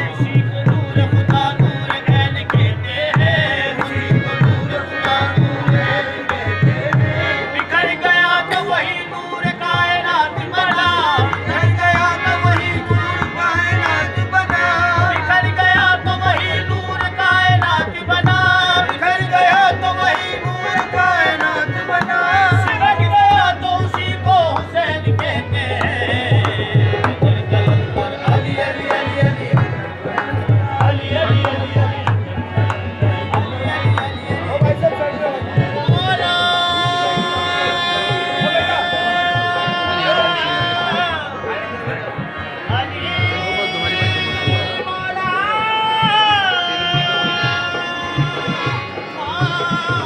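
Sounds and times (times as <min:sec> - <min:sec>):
harmonium: 0:00.0 - 0:50.0
men singing: 0:00.0 - 0:50.0.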